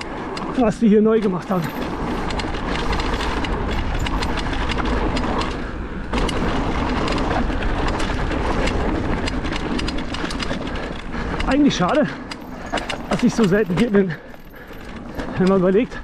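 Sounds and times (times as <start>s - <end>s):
bike rattling: 0.0s - 16.0s
bike tyres rolling over dirt: 0.0s - 16.0s.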